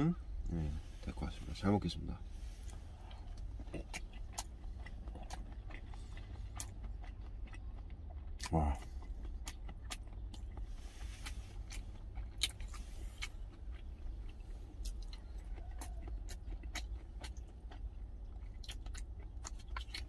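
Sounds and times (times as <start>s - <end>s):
steady low hum: 0.0s - 20.0s
person chewing: 2.2s - 20.0s.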